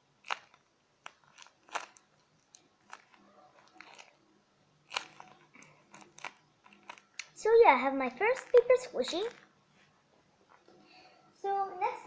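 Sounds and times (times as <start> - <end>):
paper crinkling: 0.2 - 10.8.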